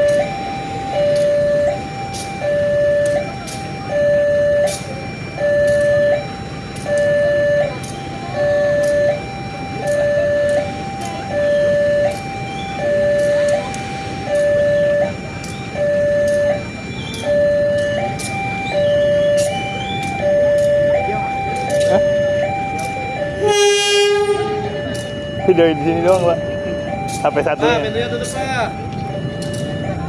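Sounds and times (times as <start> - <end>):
level crossing two-tone alarm: 0.0 - 30.0.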